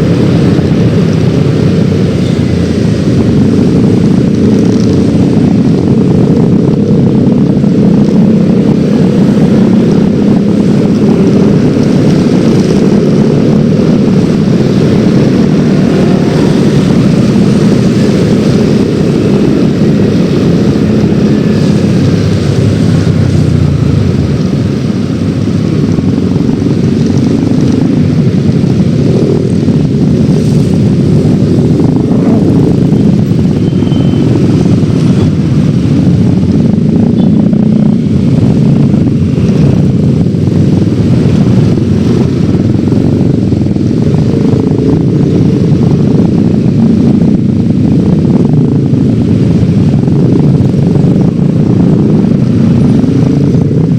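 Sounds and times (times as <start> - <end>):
scooter engine running: 0.0 - 53.9.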